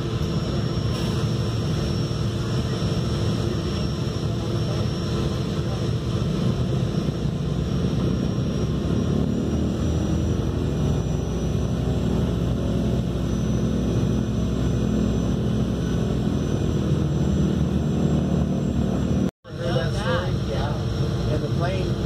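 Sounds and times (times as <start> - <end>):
propeller plane engines droning: 0.0 - 22.0.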